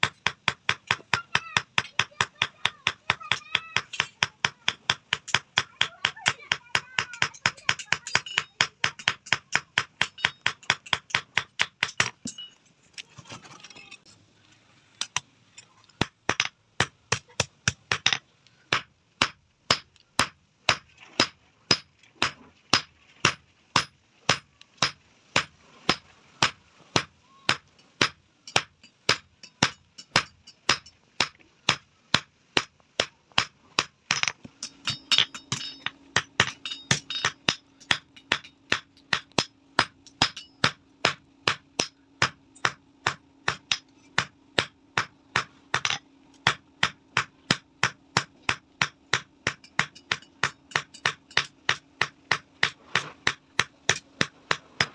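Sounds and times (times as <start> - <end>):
hammer striking hot steel on anvil: 0.0 - 12.6, 16.0 - 54.9
low steady hum: 0.0 - 54.9.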